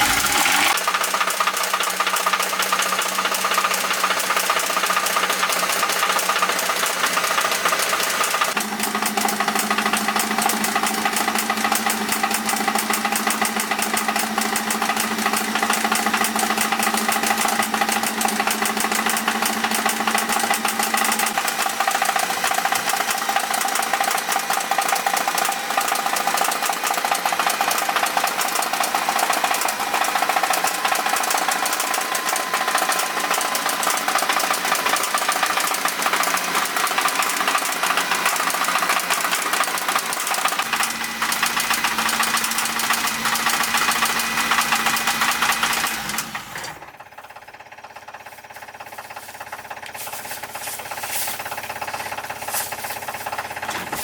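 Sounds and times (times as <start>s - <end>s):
engine knocking clatter: 0.0s - 54.0s.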